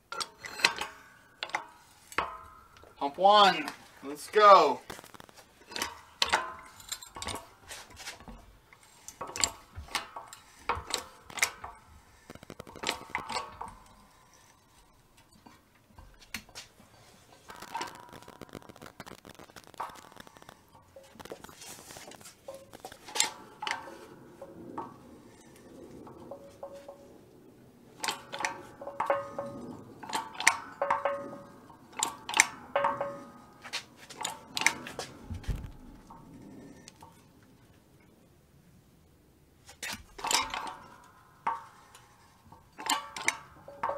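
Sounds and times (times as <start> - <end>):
hydraulic press metallic clanks: 0.0 - 19.1, 19.7 - 27.3, 27.9 - 37.3, 39.7 - 43.9
metallic clicks and creaks: 0.0 - 38.3, 39.6 - 43.9.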